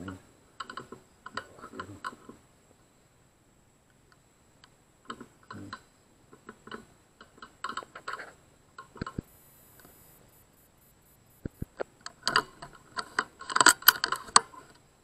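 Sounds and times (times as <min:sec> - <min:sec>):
faint irregular clicks: 0:00.0 - 0:02.8, 0:03.8 - 0:14.9
faint high-pitched whine: 0:00.0 - 0:15.0.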